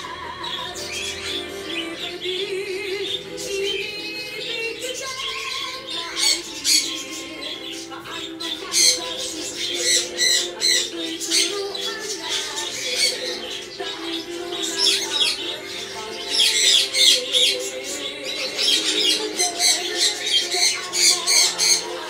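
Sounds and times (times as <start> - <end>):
background music: 0.0 - 22.0
cockatiels chirping and squawking: 0.0 - 22.0.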